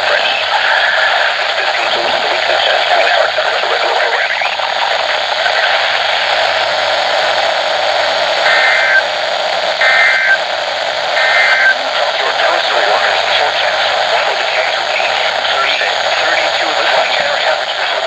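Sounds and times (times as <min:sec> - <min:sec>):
radio static hiss: 0:00.0 - 0:18.0
warbling data tones: 0:00.0 - 0:18.0.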